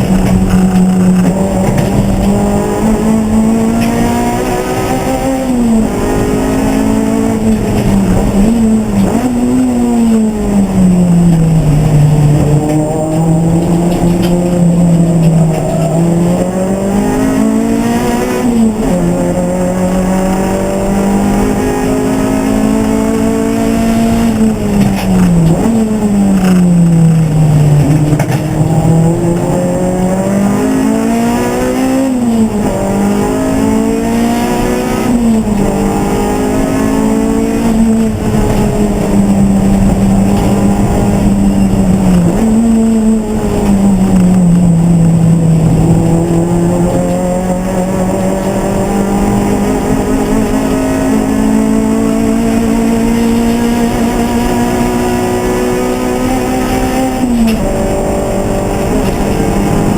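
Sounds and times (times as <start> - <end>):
race car engine shifting gears: 0.0 - 59.9.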